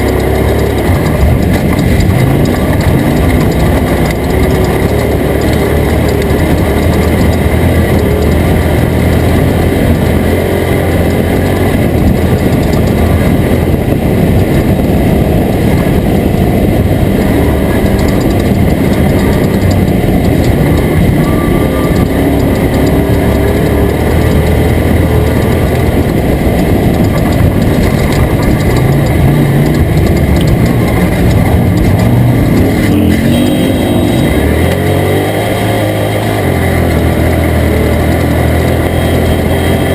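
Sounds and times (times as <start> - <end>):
rough chassis and terrain noise: 0.0 - 39.9
truck engine revving hard: 0.0 - 39.9.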